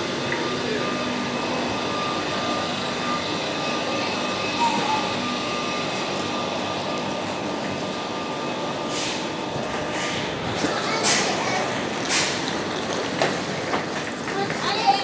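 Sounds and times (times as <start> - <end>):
train ventilation hum and whir: 0.0 - 15.0.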